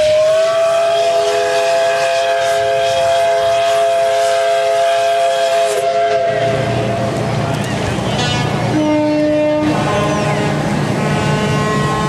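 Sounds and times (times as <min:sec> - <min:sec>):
ship's whistle blast: 0:00.0 - 0:06.8, 0:08.1 - 0:12.0.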